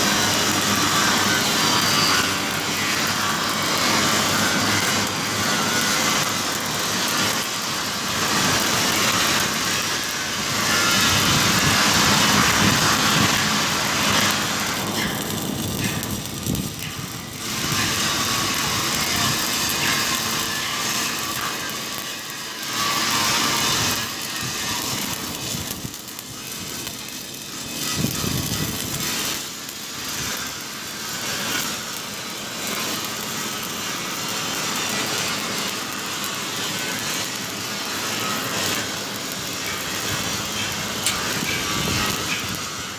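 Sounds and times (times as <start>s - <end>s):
welding arc crackling and hissing: 0.0s - 42.9s.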